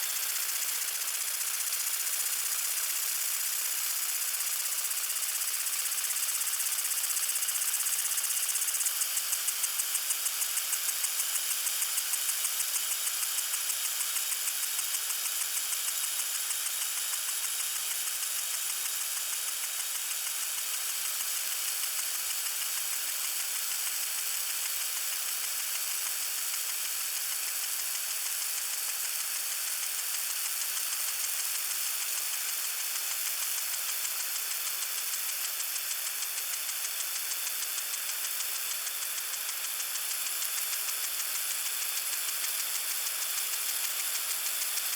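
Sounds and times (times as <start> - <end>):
lawn sprinkler spraying water: 0.0 - 44.9.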